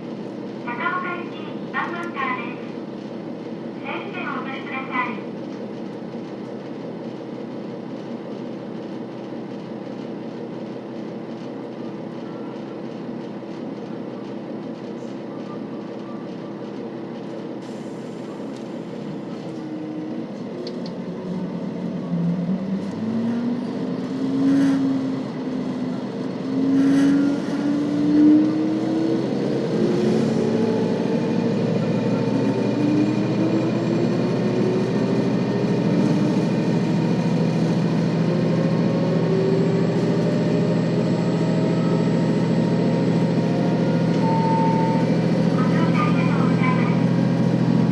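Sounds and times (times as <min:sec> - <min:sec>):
diesel railcar engine revving: 0:00.0 - 0:47.9.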